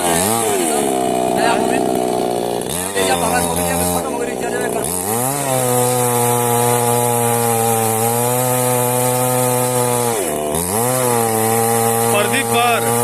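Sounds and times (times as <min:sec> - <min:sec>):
chainsaw sawing through trunk: 0:00.0 - 0:13.0.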